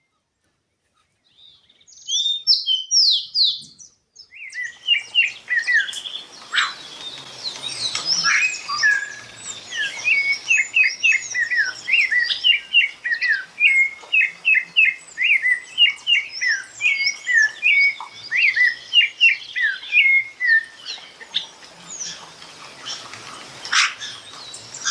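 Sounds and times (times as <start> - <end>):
songbirds chirping and singing: 0.4 - 24.9.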